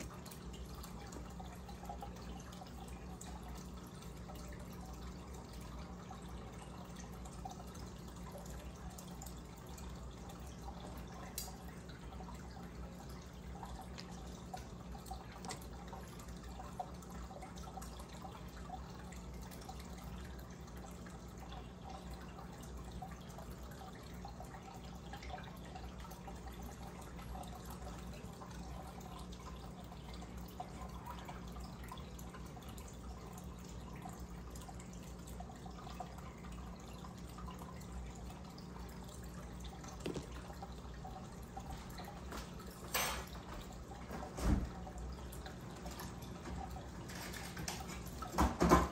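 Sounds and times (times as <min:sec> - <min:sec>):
aquarium air stone bubbling: 0:00.0 - 0:48.9
low steady hum: 0:00.0 - 0:48.9
water trickling and dripping: 0:00.0 - 0:48.9.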